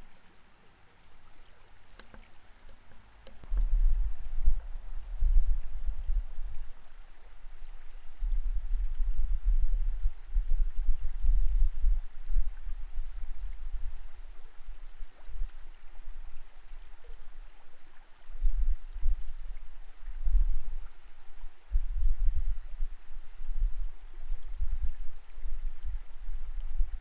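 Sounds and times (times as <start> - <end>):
underwater creek current rumble: 0.0 - 27.0.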